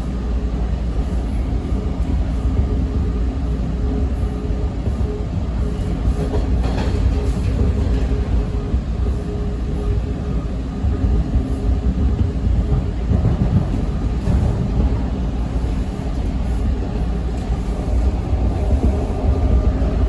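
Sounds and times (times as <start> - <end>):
subway train rumble: 0.0 - 20.0.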